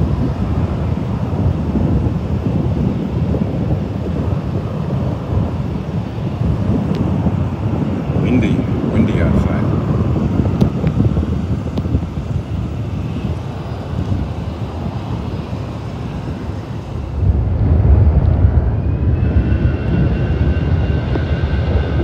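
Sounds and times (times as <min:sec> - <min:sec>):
high engine whine: 0:00.0 - 0:22.0
jet engines rumbling: 0:00.0 - 0:22.0.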